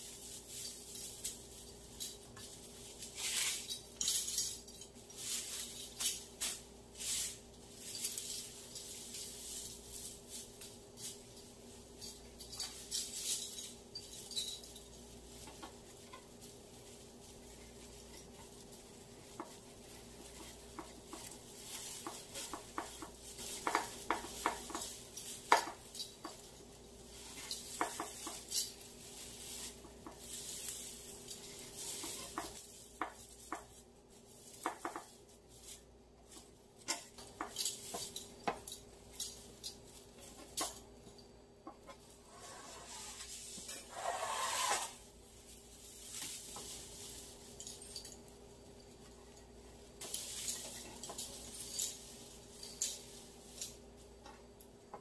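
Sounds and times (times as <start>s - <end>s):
dry stems rustling and crackling: 0.0s - 55.0s.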